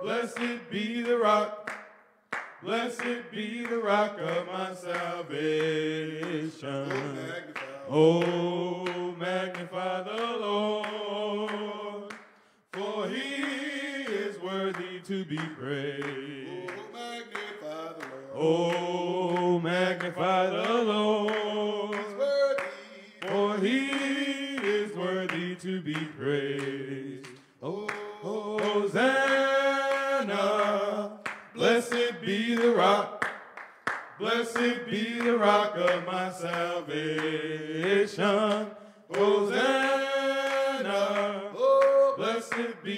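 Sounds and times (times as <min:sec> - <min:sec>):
men singing in harmony: 0:00.0 - 0:01.8, 0:02.6 - 0:33.3, 0:34.2 - 0:42.9.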